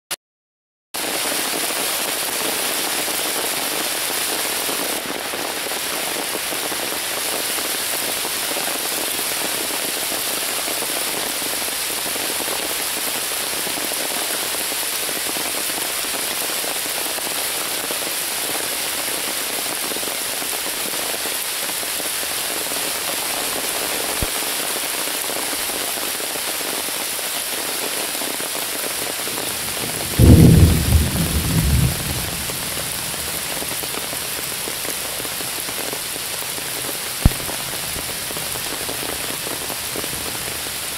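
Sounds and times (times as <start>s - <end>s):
rain falling on leaves: 1.0s - 40.9s.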